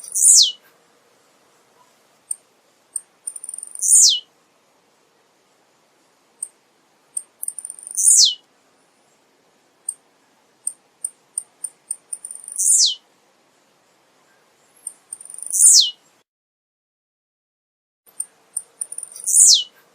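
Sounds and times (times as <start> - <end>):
bird singing high ticks and buzz: 0.0 - 0.8, 1.5 - 4.3, 5.5 - 16.2, 18.1 - 19.9.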